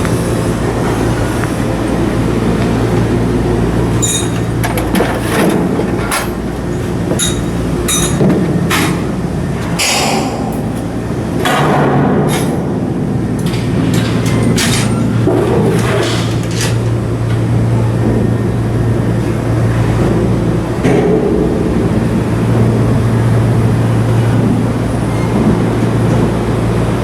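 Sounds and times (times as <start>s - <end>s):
machinery hum: 0.0s - 27.0s.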